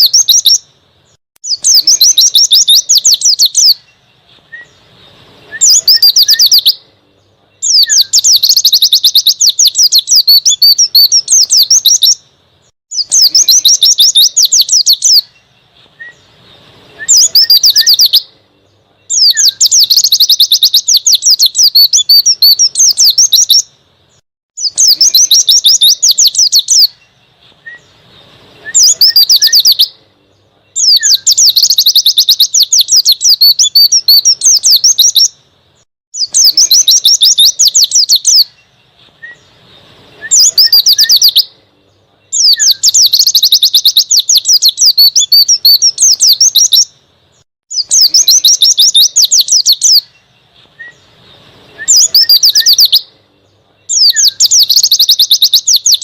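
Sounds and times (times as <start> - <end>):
bird high twittering song: 0.0 - 56.0.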